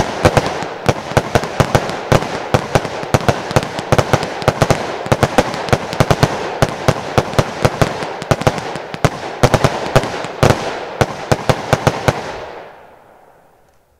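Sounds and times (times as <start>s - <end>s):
fireworks reports: 0.0s - 12.8s
fireworks crackling hiss: 0.0s - 13.9s.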